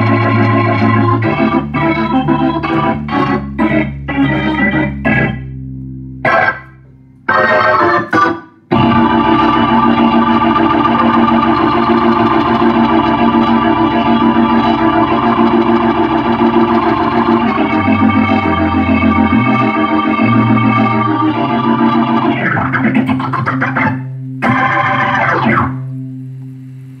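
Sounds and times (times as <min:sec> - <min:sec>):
organ bass notes: 0:00.0 - 0:27.0
organ chords through rotating speaker: 0:00.0 - 0:27.0.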